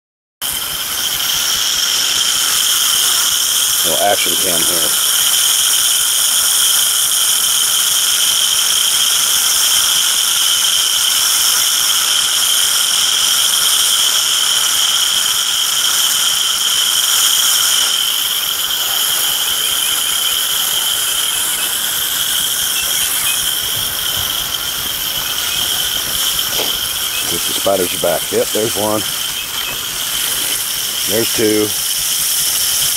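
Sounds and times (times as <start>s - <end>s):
high insect drone: 0.4s - 32.9s
hose sprayer hissing and spattering: 0.4s - 32.9s.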